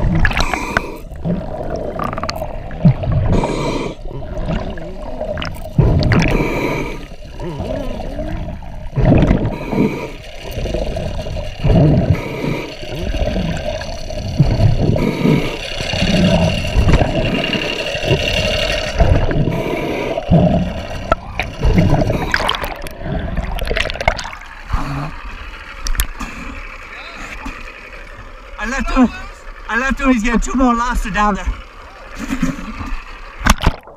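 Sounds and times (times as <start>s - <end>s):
splashing and bubbling: 0.0s - 33.9s
steady hum: 0.0s - 33.9s
water sloshing and gurgling: 0.0s - 33.9s.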